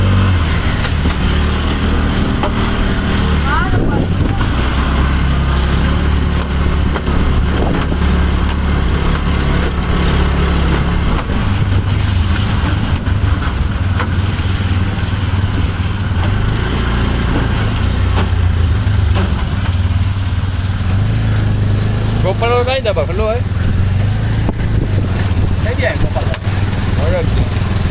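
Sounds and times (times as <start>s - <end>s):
constant rushing noise: 0.0s - 27.9s
vehicle engine running: 0.0s - 27.9s.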